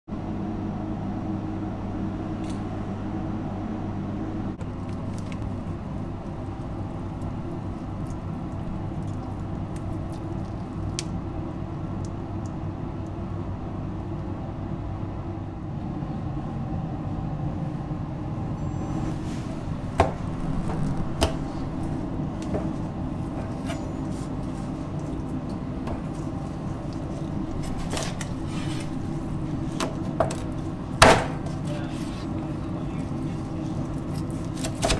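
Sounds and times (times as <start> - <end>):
kitchen machine hum: 0.2 - 34.9.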